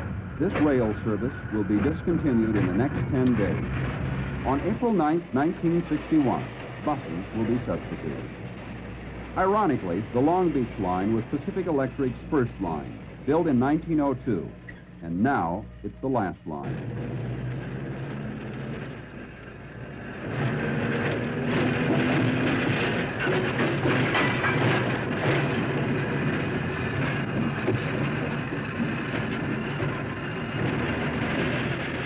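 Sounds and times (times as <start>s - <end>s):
streetcar wheels rumbling on rails: 0.0s - 32.0s.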